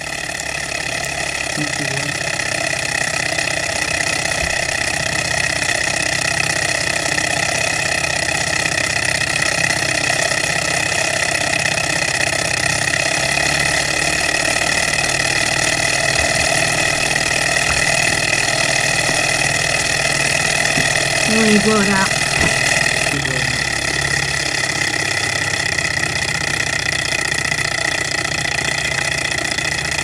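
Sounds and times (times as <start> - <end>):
small engine mechanical whir: 0.0 - 30.0.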